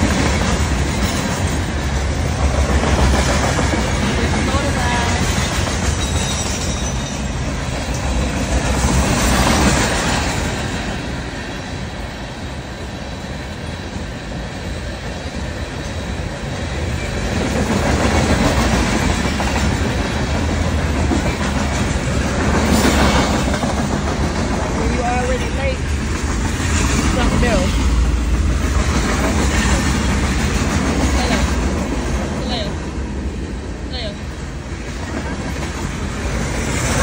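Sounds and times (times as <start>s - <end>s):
freight train wheels clattering: 0.0s - 32.8s.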